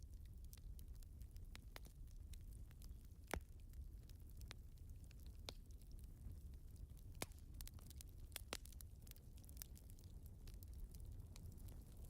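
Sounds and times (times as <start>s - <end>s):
fireplace crackling: 0.0s - 12.0s.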